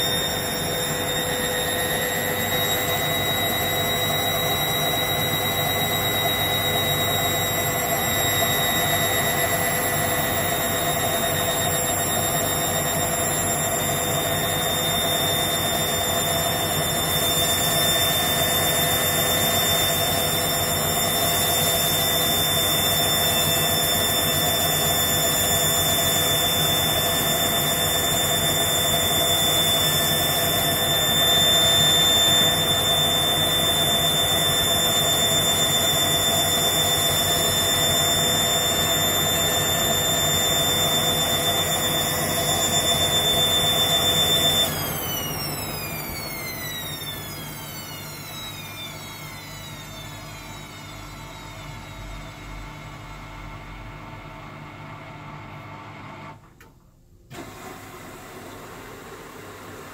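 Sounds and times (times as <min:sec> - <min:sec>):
washing machine spinning: 0:00.0 - 0:56.4, 0:57.0 - 0:59.9.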